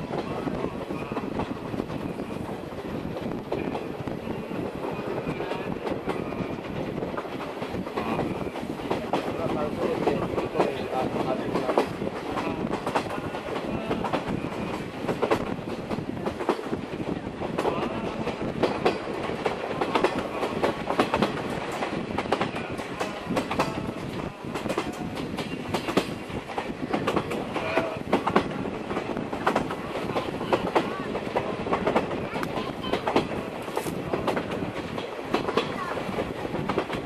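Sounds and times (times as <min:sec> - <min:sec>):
train coach rumbling on track: 0:00.0 - 0:37.0.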